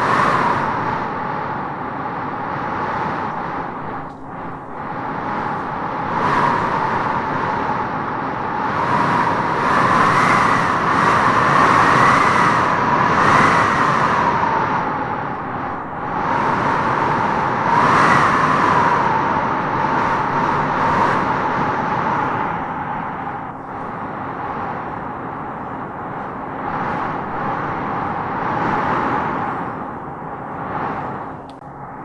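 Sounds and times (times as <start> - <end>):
strong wind blowing in gusts: 0.0 - 32.0
wavering wind whistle: 0.0 - 32.0.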